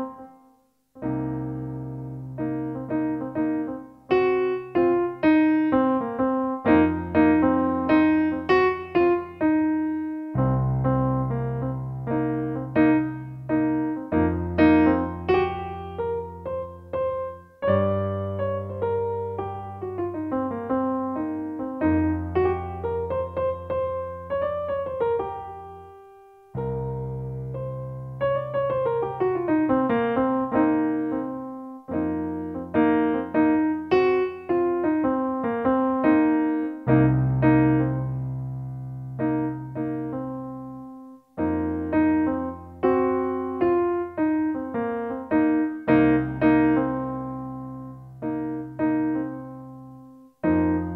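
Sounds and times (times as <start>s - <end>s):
solo piano music: 0.0s - 50.9s.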